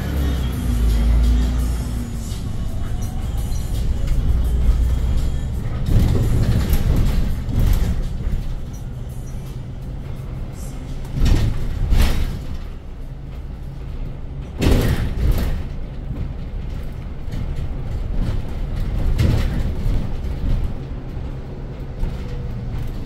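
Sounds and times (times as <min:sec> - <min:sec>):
electric bus cabin hum: 0:00.0 - 0:23.0.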